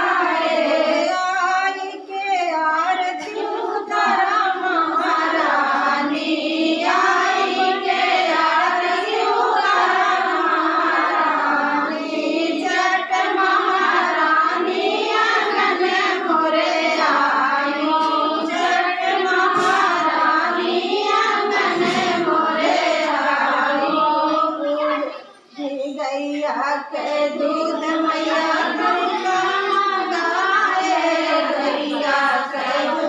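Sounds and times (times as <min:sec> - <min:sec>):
women singing together: 0:00.0 - 0:33.0.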